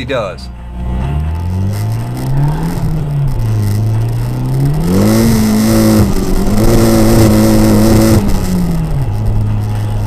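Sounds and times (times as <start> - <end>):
turbocharged car engine accelerating: 0.5 - 10.0.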